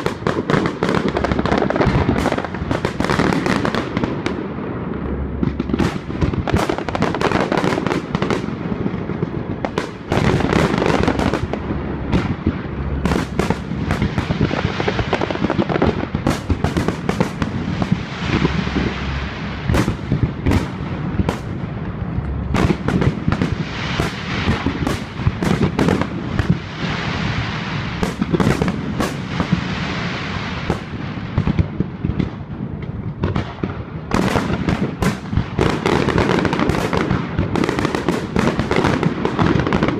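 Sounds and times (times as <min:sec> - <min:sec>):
fireworks bursts and bangs: 0:00.0 - 0:39.9
fireworks crackling: 0:00.0 - 0:39.9.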